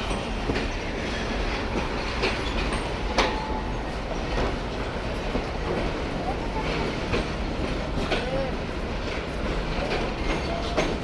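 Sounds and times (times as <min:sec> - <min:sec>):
train rumble: 0:00.0 - 0:11.0
train wheels clicking over rail joints: 0:00.0 - 0:11.0.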